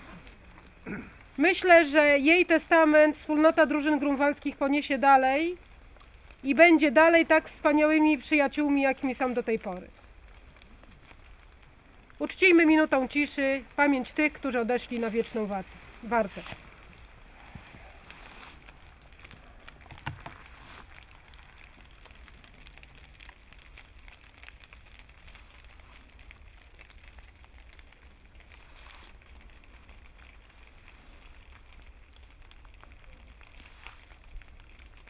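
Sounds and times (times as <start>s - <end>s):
small clicks and rustles: 0.0s - 35.0s.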